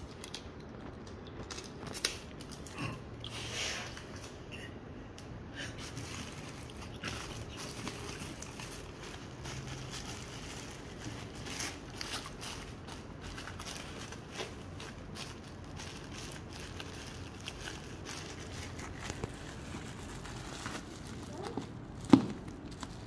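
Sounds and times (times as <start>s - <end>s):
bubble wrap crinkling: 0.0s - 2.9s, 5.6s - 23.0s.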